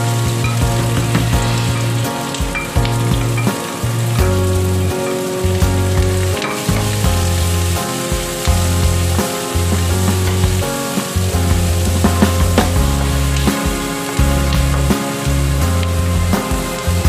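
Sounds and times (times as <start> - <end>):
background music with bass: 0.0 - 17.0.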